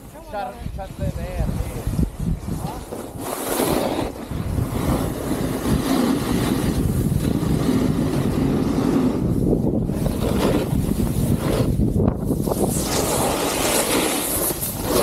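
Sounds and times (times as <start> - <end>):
snowboard scraping over snow: 0.0 - 15.0
wind rumbling on microphone: 0.0 - 15.0.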